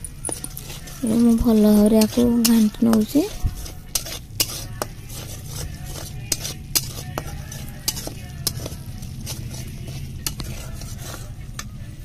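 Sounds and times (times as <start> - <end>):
paste sizzling: 0.0 - 11.6.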